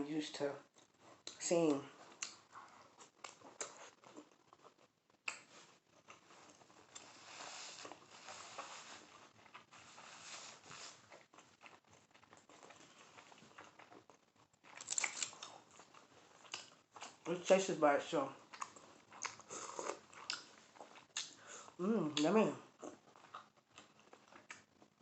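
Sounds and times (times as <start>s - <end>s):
chewing: 0.6s - 1.4s, 2.0s - 17.3s, 18.4s - 21.8s, 22.7s - 25.0s.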